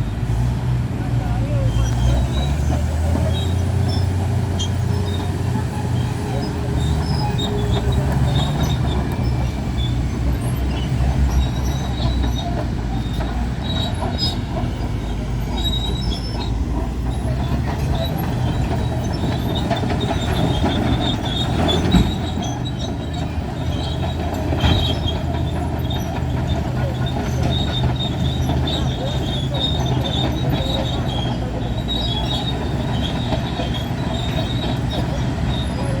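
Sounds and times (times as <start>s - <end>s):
heavy machinery rumbling: 0.0s - 36.0s
high metallic squeals: 1.7s - 36.0s.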